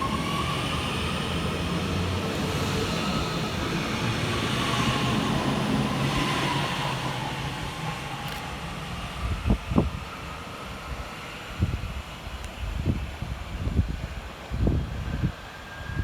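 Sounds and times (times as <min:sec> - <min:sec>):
rolling rail noise: 0:00.0 - 0:16.0
train motors humming and whining: 0:00.0 - 0:16.0.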